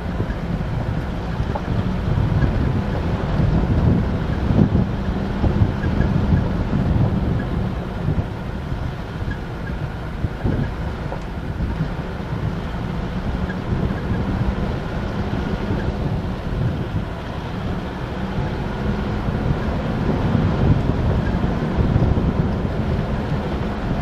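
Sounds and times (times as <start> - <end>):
car engine low rumble: 0.0 - 24.0
wind buffeting microphone: 0.0 - 24.0.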